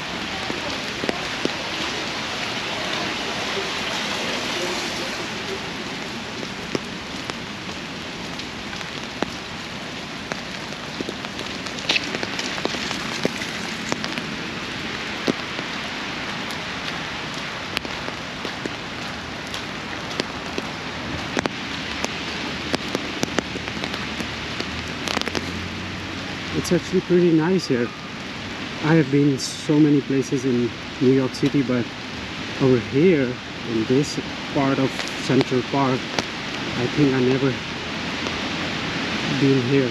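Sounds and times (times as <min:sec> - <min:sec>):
raindrops tapping on umbrella: 0:00.0 - 0:26.8, 0:34.2 - 0:39.9
steady rain falling: 0:00.0 - 0:39.9.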